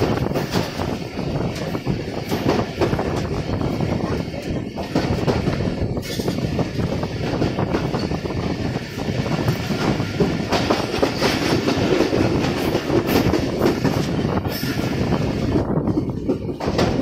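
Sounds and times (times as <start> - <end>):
sharp clacks of train wheels: 0.0 - 17.0
train wheels rumbling on track: 0.0 - 17.0.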